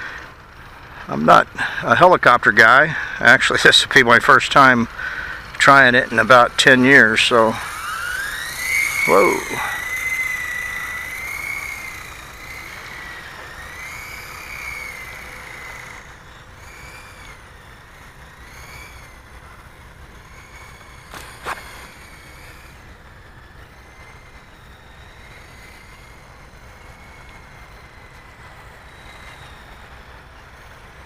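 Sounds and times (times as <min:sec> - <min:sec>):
rc helicopter whining in flight: 0:00.0 - 0:31.0.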